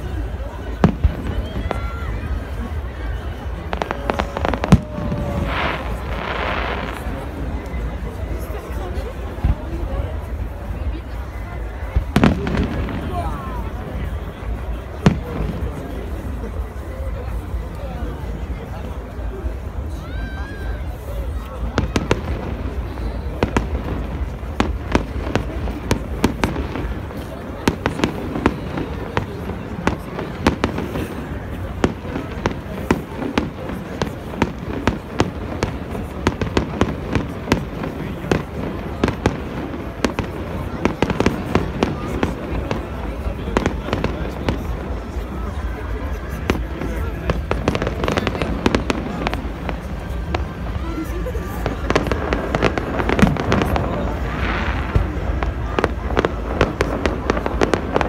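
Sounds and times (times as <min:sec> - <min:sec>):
fireworks banging: 0:00.0 - 0:17.1, 0:21.3 - 0:58.0.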